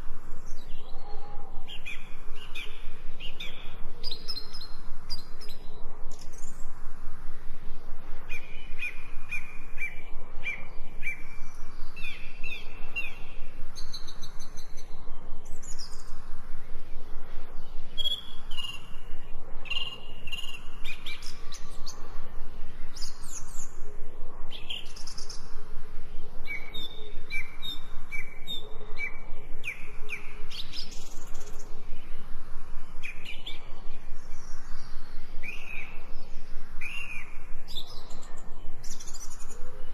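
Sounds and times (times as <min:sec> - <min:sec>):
birds chirping and singing: 0:00.4 - 0:06.7, 0:08.3 - 0:16.8, 0:17.6 - 0:25.6, 0:26.3 - 0:32.2, 0:32.8 - 0:39.9.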